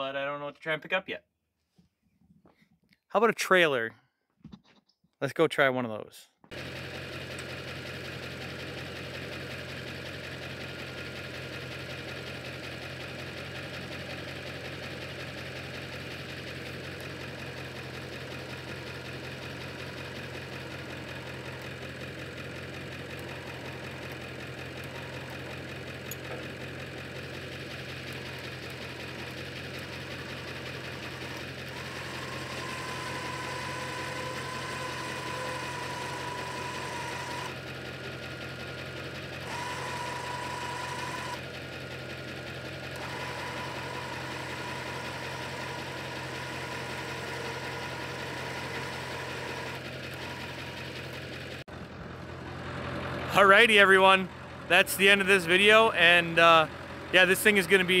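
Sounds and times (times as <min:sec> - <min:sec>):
electric winch whining: 0:06.5 - 0:55.8
engine idling: 0:06.5 - 0:58.0.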